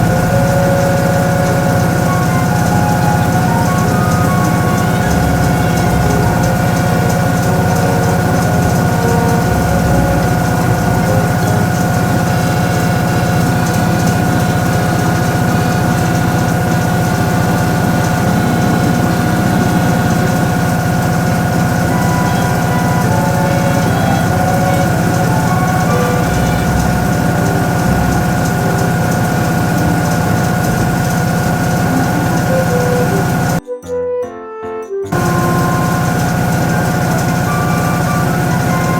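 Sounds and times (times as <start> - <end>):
washing machine running: 0.0 - 33.6, 35.1 - 38.9.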